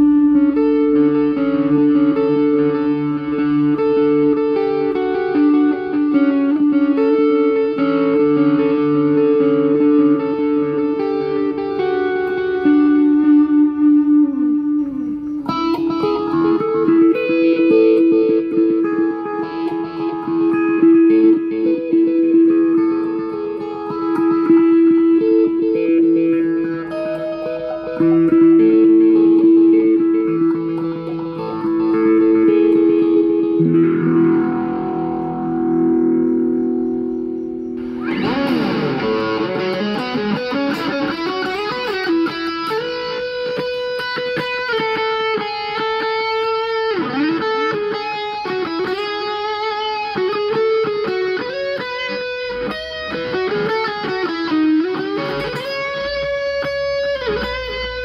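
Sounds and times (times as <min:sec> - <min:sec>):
electric guitar with delay: 0:00.0 - 0:58.0.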